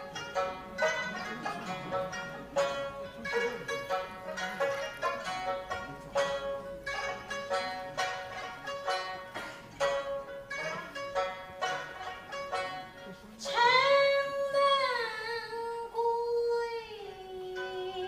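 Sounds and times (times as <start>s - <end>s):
plucked lutes playing short notes: 0.0s - 15.3s.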